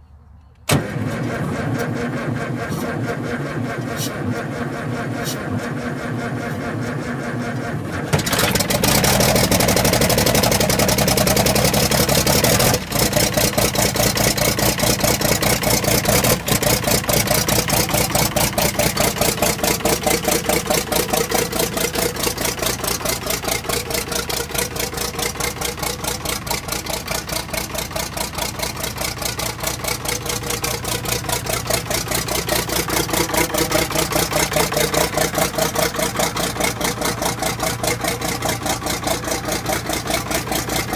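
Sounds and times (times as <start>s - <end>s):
diesel engine cranking: 0.0s - 40.9s
diesel engine running: 0.0s - 40.9s.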